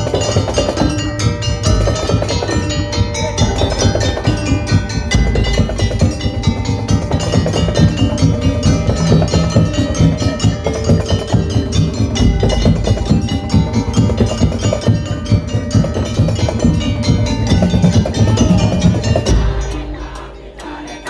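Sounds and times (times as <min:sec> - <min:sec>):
drums: 0:00.0 - 0:21.0
ringing pitched percussion: 0:00.0 - 0:21.0
wooden slit drums: 0:00.0 - 0:21.0.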